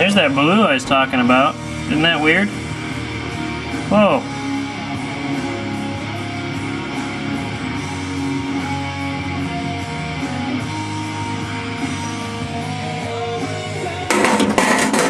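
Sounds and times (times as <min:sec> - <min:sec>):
strummed electric guitar: 0:00.0 - 0:15.0.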